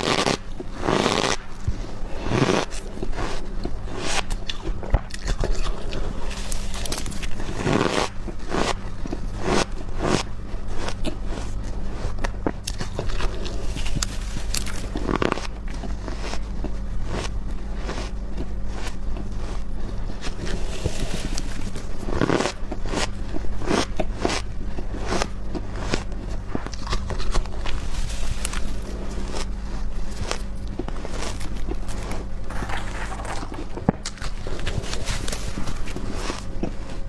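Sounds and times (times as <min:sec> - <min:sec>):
frost being crunched and chewed: 0:00.0 - 0:37.0
steady low hum: 0:00.0 - 0:37.0.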